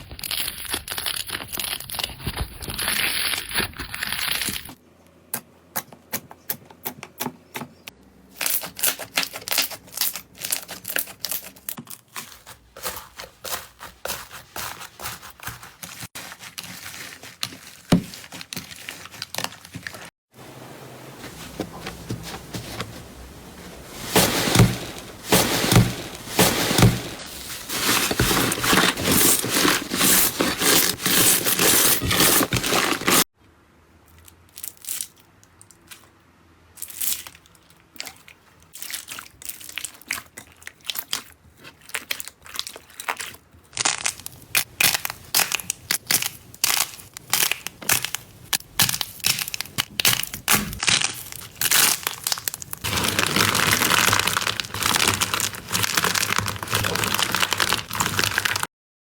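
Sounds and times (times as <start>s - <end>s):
slime crackling and crunching: 0.0s - 4.8s, 8.4s - 20.1s, 23.7s - 33.3s, 36.8s - 58.7s.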